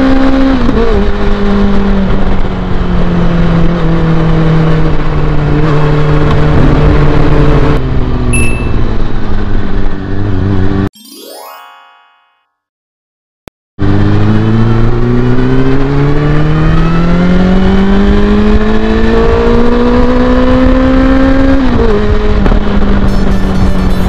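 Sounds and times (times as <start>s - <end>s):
motorcycle engine accelerating: 0.0s - 10.9s, 13.8s - 24.0s.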